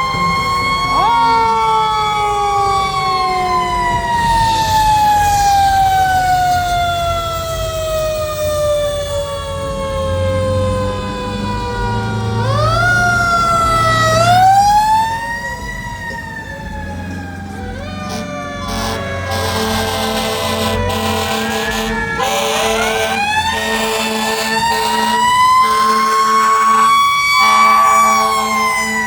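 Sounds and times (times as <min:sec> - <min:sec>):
fire truck siren winding: 0:00.0 - 0:29.0
other siren tones: 0:00.0 - 0:29.0
truck engine rumble: 0:00.0 - 0:29.0.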